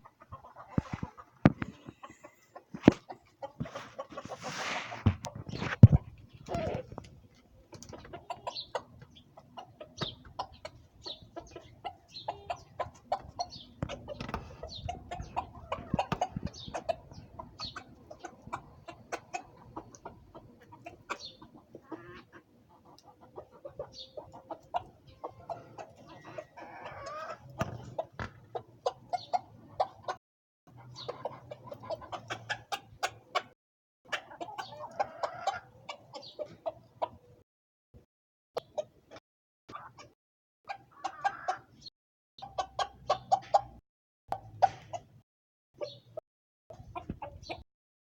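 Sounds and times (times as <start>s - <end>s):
chickens clucking: 0.0s - 37.4s, 38.0s - 45.2s, 45.8s - 47.6s.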